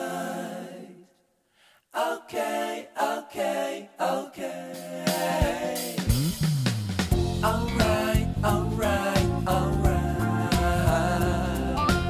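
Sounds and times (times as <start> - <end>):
song with sung vocals: 0.0 - 6.4, 7.1 - 12.0.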